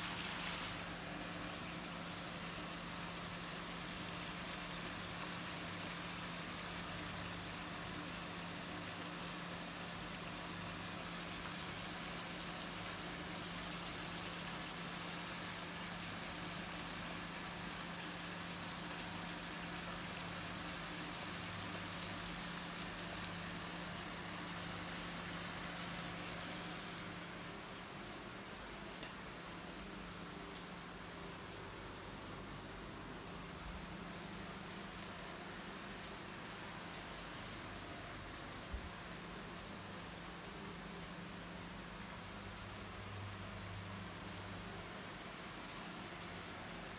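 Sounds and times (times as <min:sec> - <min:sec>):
constant hiss: 0:00.0 - 0:46.9.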